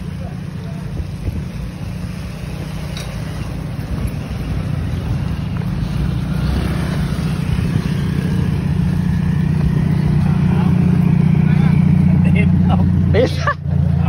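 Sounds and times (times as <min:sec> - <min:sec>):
car engine and exhaust rumble: 0:00.0 - 0:14.0.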